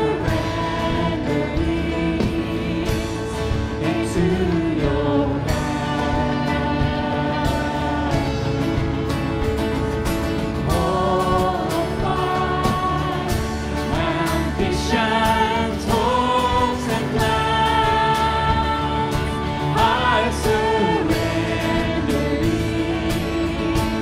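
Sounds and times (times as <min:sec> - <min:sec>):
people singing long notes: 0:00.0 - 0:09.6, 0:10.6 - 0:24.0
instrumental accompaniment with beat: 0:00.0 - 0:24.0.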